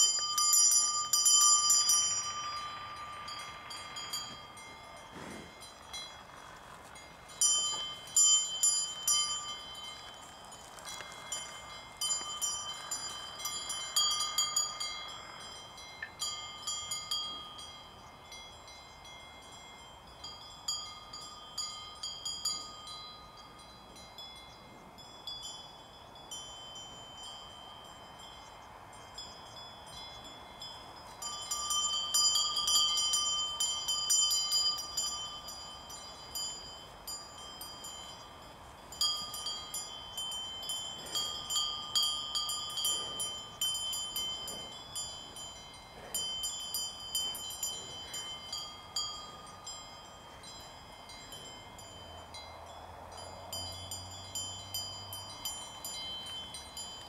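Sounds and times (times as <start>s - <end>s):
cowbells clanking: 0.0s - 57.0s.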